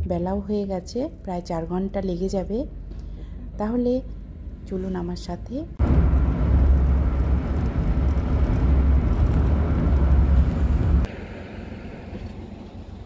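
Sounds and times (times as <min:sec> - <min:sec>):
moving vehicle road and wind noise: 0:00.0 - 0:13.0.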